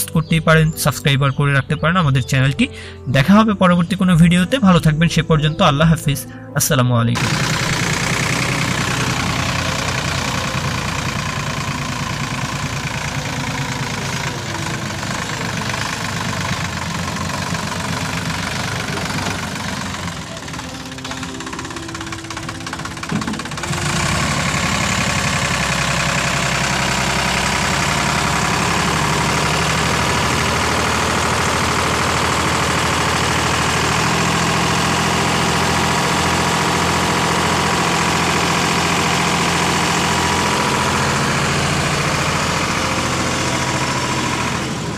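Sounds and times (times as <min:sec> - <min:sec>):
tractor diesel engine idling: 0:00.0 - 0:44.9.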